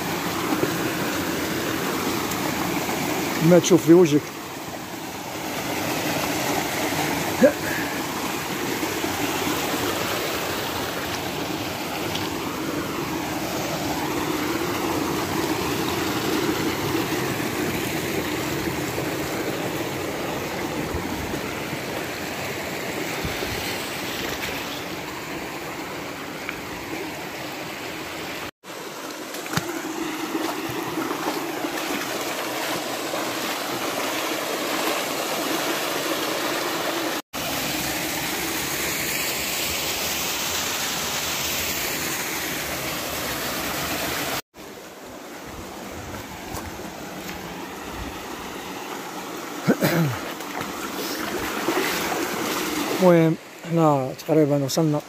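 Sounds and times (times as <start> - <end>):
stream gurgling over rocks: 0.0 - 55.0.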